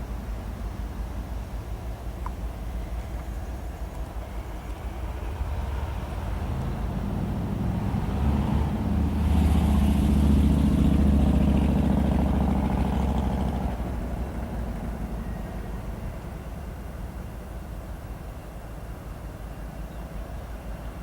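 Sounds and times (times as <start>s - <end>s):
diesel locomotives passing: 0.0s - 21.0s.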